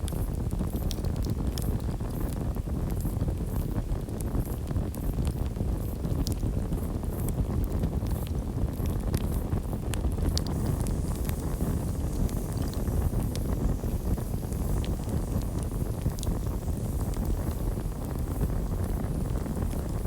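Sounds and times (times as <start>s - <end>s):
campfire low rumble: 0.0s - 20.0s
fire crackling and popping: 0.0s - 20.0s.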